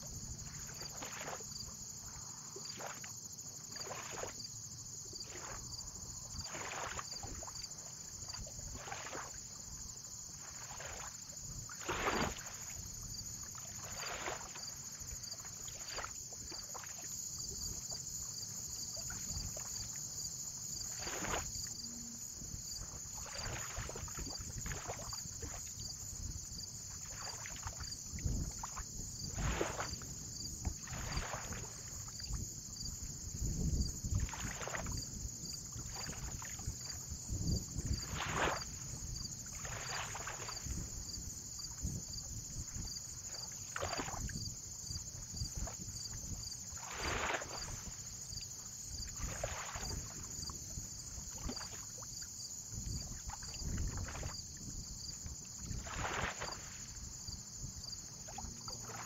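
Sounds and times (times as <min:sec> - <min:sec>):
small waves lapping and splashing: 0:00.0 - 0:59.0.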